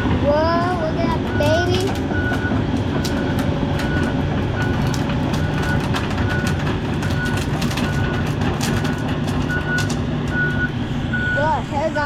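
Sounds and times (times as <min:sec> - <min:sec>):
diesel engine drone: 0:00.0 - 0:12.0
travel alarm beeping: 0:01.3 - 0:11.7.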